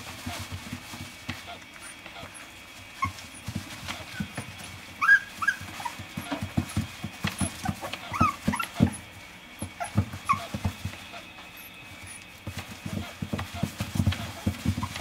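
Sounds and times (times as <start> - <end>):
puppy whimpering and squeaking: 1.4 - 12.2, 12.8 - 15.0.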